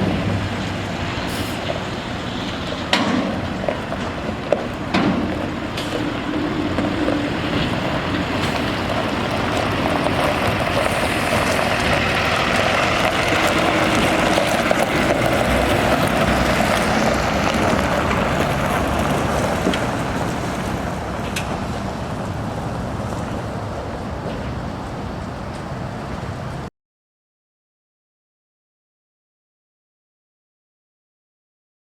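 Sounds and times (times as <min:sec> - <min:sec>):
diesel truck engine running: 0:00.0 - 0:26.7
road and wind noise: 0:00.0 - 0:26.7.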